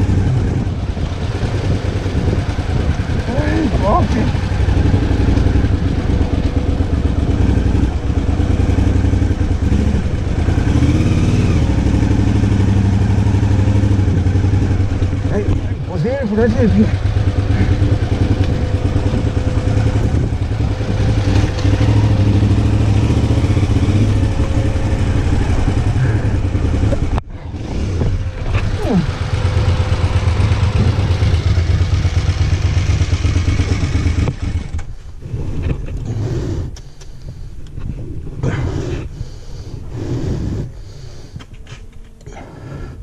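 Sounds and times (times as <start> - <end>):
motorcycle engine droning: 0.0 - 43.0.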